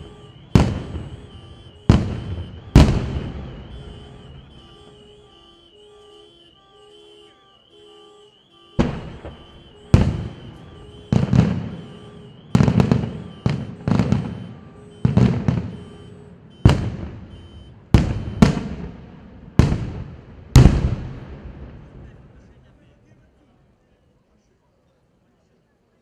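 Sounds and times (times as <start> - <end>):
fireworks booming: 0.0 - 22.6.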